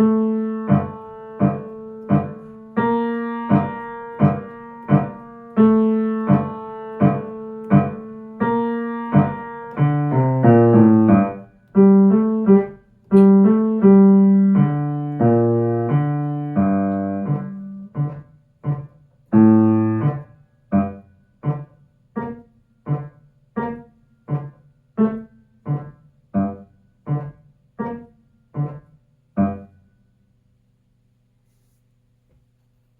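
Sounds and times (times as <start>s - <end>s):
piano playing detached notes: 0.0s - 29.8s.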